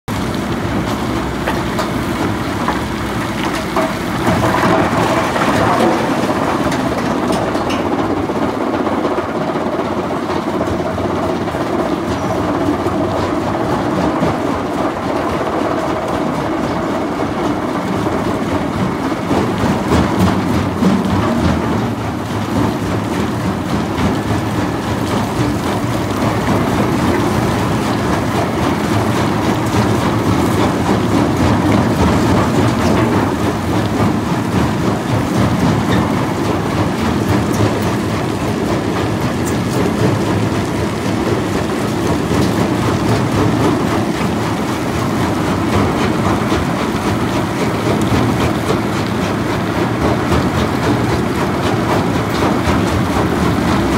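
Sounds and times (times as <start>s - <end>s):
rock crusher heavy rattle: 0.1s - 53.9s.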